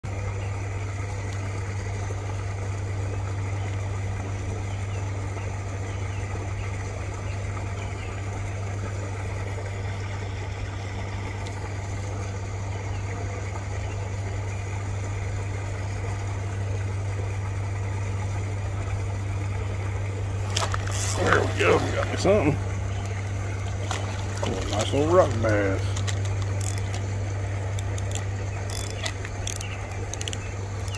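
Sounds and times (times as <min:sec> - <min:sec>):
low mechanical hum: 0:00.0 - 0:30.9.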